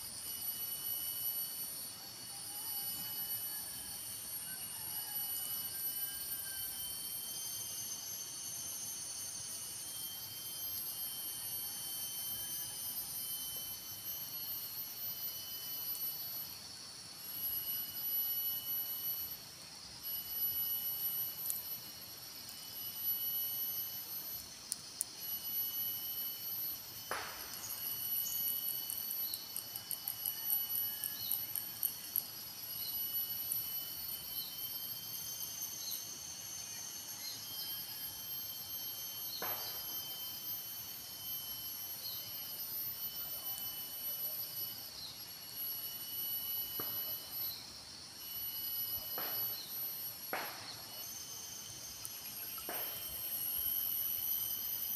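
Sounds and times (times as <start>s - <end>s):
insects buzzing and trilling: 0.0s - 54.9s.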